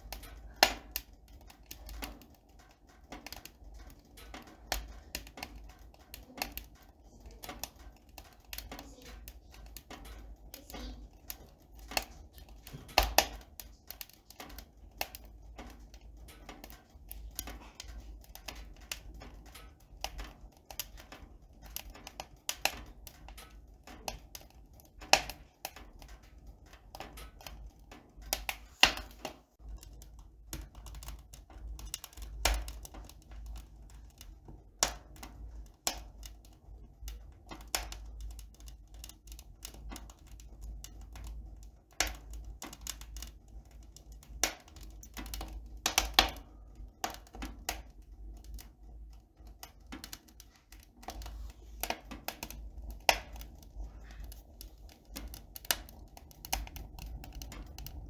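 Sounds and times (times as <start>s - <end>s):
light clicks and taps: 0.0s - 58.0s.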